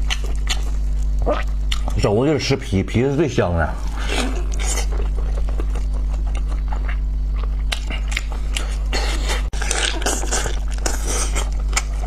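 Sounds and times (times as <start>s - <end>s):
wet smacking and chewing: 0.0s - 2.0s, 3.8s - 12.0s
steady low hum: 0.0s - 12.0s.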